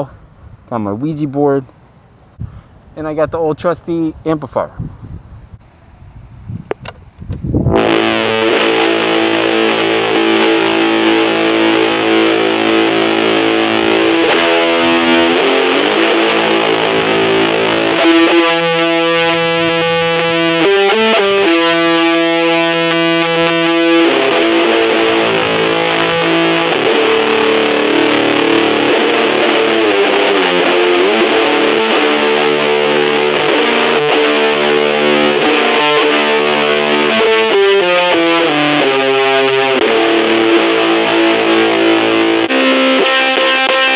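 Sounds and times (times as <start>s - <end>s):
fuzzy distorted electric guitar: 7.7s - 43.9s.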